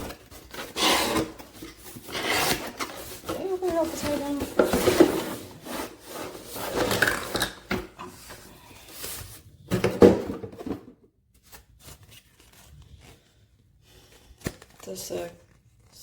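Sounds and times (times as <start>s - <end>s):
cardboard packaging rustling: 0.0s - 16.0s.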